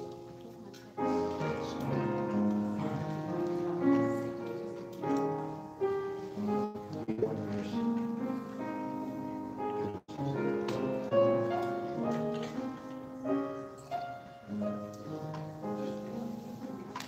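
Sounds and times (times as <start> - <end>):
grand piano playing slow chords: 0.0 - 17.0.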